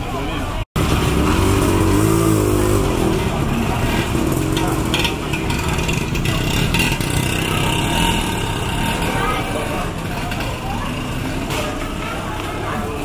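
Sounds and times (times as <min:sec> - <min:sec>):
street bustle: 0:00.0 - 0:13.0
voices: 0:00.0 - 0:13.0
motorbike engine running: 0:00.8 - 0:12.3.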